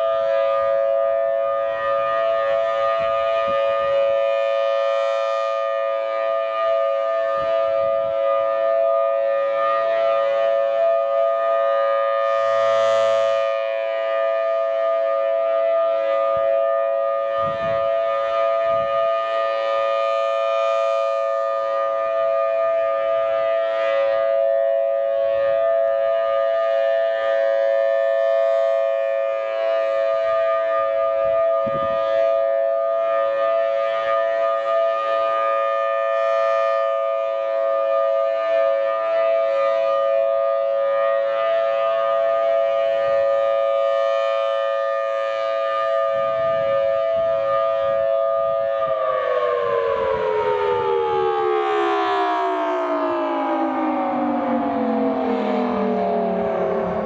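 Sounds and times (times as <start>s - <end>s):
warning siren steady chord: 0.0s - 57.0s.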